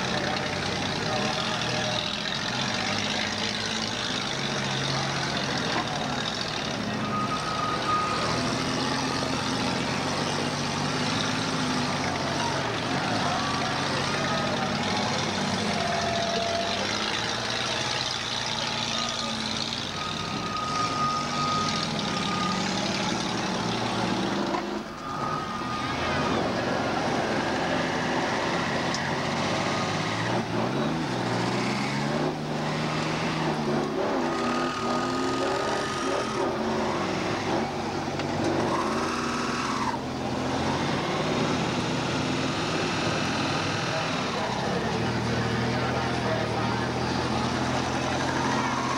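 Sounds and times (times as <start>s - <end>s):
car engines running and revving: 0.0s - 48.9s.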